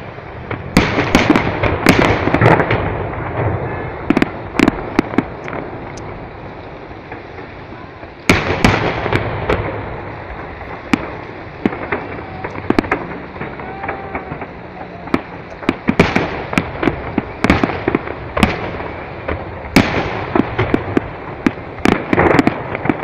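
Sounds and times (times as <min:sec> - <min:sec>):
low rumble: 0:00.0 - 0:21.9
firework pops and crackles: 0:00.0 - 0:23.0.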